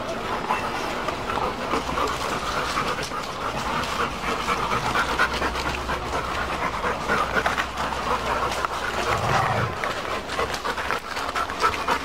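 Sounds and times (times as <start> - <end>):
dogs panting rapidly: 0.0 - 12.0.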